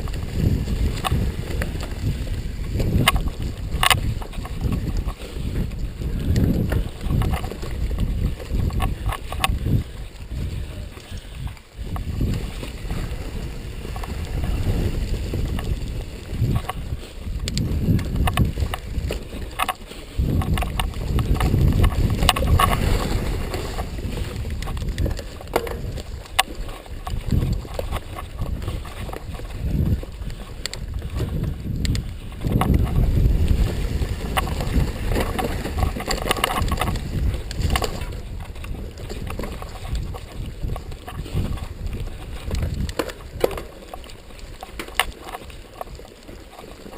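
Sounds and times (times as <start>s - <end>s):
bike knocking and rattling: 0.0s - 46.9s
wind buffeting microphone: 0.0s - 46.9s.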